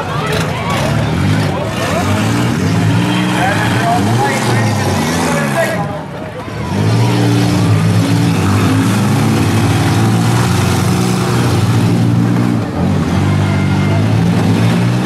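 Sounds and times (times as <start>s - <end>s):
van engines revving: 0.0s - 15.0s.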